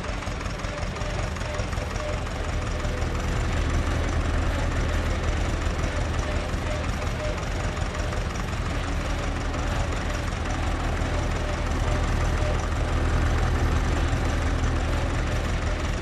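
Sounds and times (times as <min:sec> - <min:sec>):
heavy engine droning: 0:00.0 - 0:16.0.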